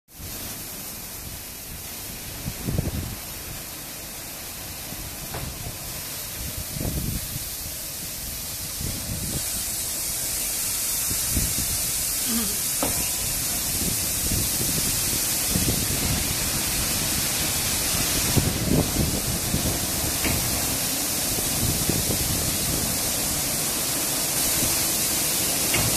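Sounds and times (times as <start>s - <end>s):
water spray hissing: 0.2s - 25.9s.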